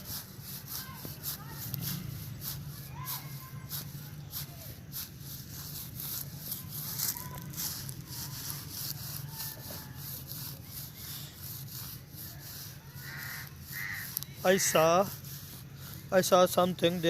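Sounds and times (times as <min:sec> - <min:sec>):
scratchy rustling and scraping: 0:00.0 - 0:17.0.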